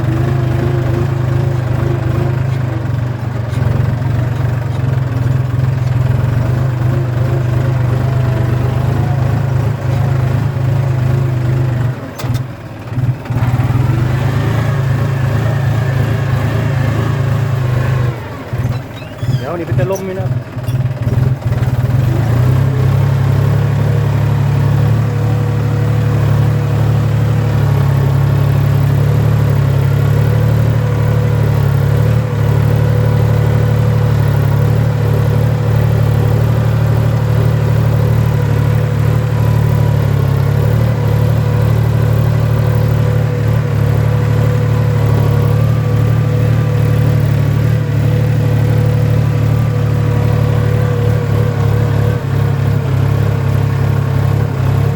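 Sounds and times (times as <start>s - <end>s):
tractor engine drone: 0.0s - 54.9s.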